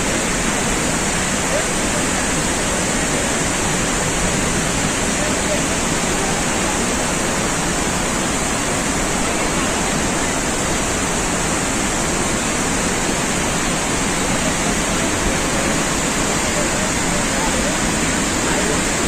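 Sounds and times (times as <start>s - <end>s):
big waterfall rushing: 0.0s - 19.0s.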